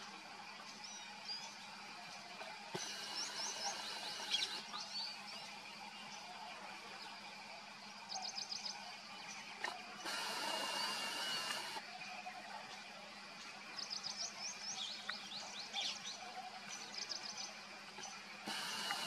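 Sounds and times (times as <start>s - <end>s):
steady hiss with high tone: 0.0s - 7.2s, 7.8s - 14.8s, 16.8s - 19.0s
songbirds chirping: 0.0s - 19.0s.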